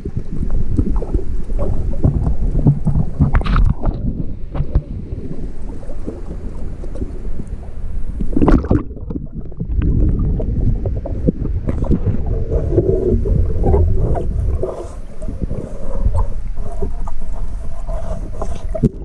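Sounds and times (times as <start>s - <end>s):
water splash: 0.0s - 15.5s
muffled underwater rumble: 0.0s - 19.0s
underwater knocks and clicks: 0.0s - 19.0s.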